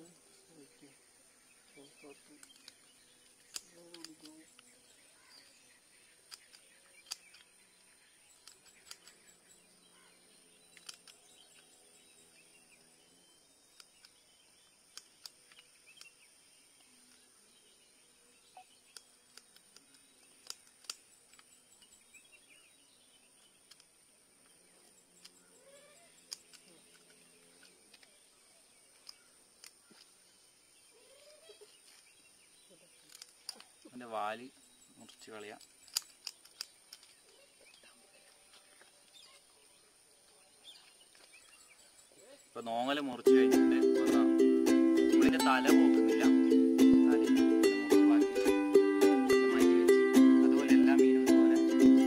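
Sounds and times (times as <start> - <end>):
faint high-pitched hiss: 0.0 - 52.0.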